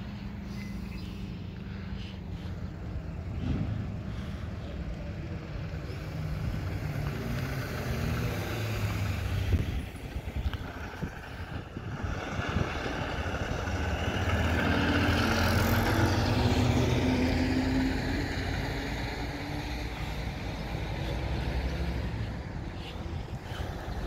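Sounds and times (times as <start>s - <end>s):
road and traffic noise: 0.0s - 24.0s
truck diesel engine: 0.0s - 24.0s.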